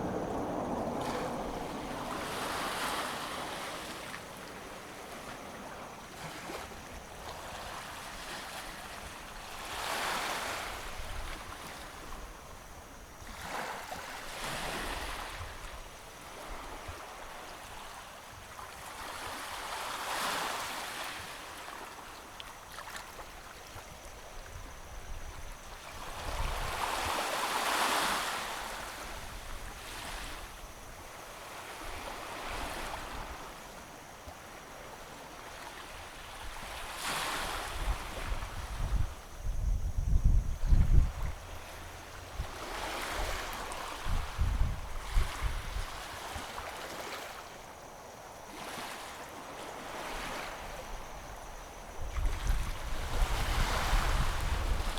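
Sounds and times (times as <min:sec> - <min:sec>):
wind rumble on microphone: 0:00.0 - 0:19.8, 0:23.7 - 0:33.8, 0:36.0 - 0:46.8, 0:50.2 - 0:54.9
waves washing up a beach: 0:00.0 - 0:24.2, 0:24.8 - 0:39.4, 0:41.1 - 0:54.9.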